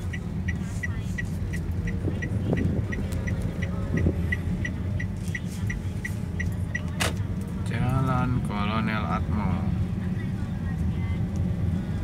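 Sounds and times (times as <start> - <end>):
turn signal ticking: 0.0 - 8.8, 9.7 - 12.0
car engine and road rumble: 0.0 - 12.0.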